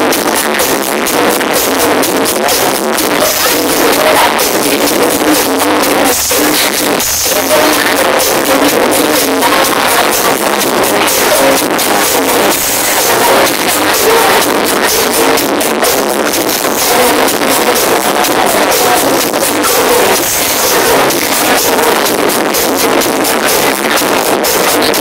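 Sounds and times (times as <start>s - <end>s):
dance music over sound system: 0.0s - 25.0s.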